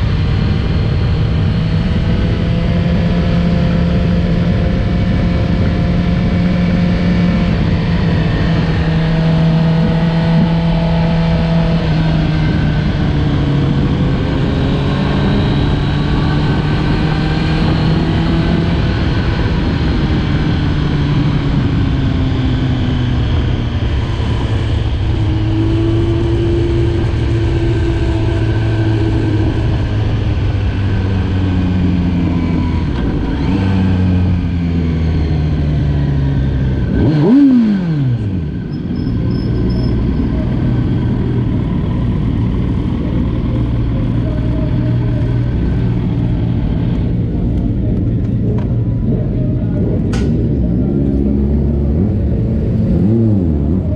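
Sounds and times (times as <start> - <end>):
motorcycle engine running hard: 0.0 - 53.9.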